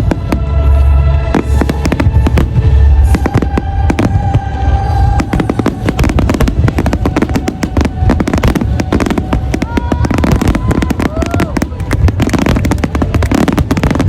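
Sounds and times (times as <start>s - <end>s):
fireworks bursting: 0.0s - 14.0s
low rumble: 0.0s - 14.0s.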